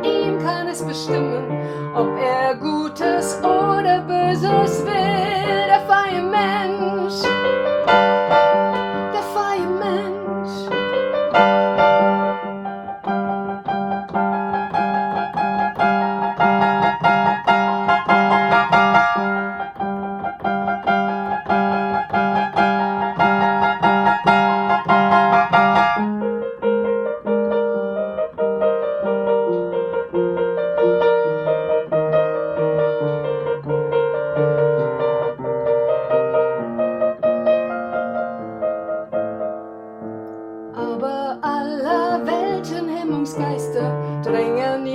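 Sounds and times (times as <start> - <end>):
solo piano playing: 0.0 - 44.9.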